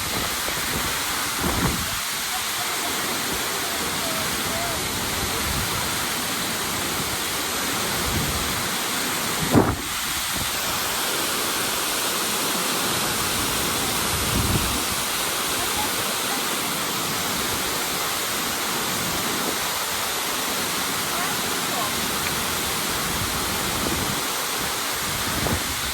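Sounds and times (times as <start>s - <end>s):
waterfall roaring: 0.0s - 25.9s.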